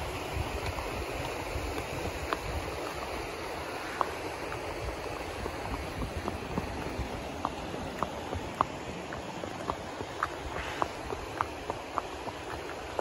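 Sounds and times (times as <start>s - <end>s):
creek rushing over stones: 0.0s - 13.0s.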